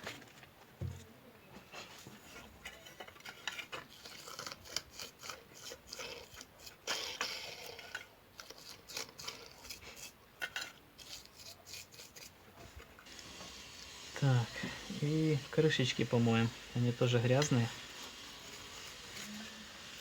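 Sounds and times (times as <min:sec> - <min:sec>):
small brush scrubbing: 0:01.7 - 0:20.0.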